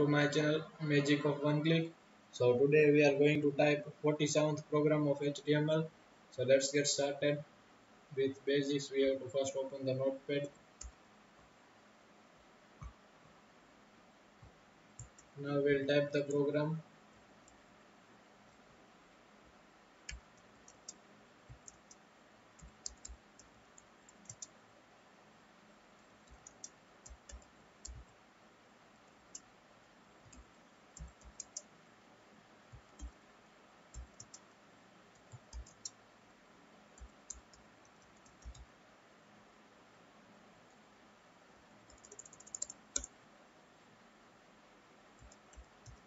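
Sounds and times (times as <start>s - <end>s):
faint steady hiss: 0.0s - 46.0s.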